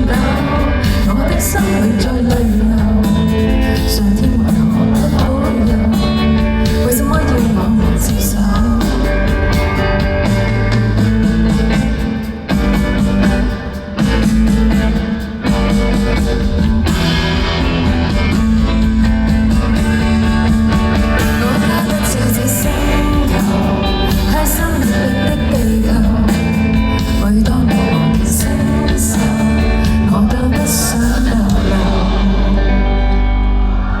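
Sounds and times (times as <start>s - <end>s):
person singing: 0.0s - 16.7s, 17.7s - 34.0s
bass: 0.0s - 34.0s
drums: 0.0s - 34.0s
guitar: 0.0s - 34.0s.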